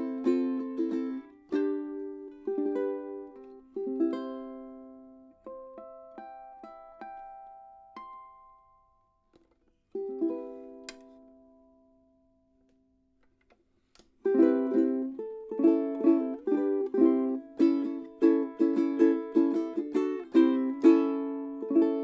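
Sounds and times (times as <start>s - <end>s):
ukulele strumming and plucking: 0.0s - 12.9s, 13.9s - 22.0s.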